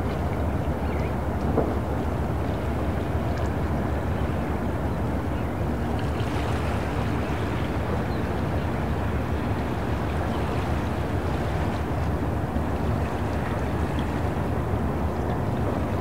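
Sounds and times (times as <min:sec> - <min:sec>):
boat engines rumbling: 0:00.0 - 0:16.0
harbour water washing: 0:00.0 - 0:16.0.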